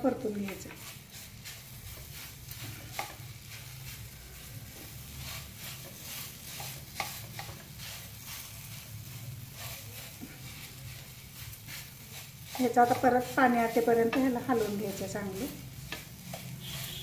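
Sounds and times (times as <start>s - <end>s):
faint frying sizzle: 0.0s - 17.0s
spatula scraping frying pan: 0.0s - 17.0s.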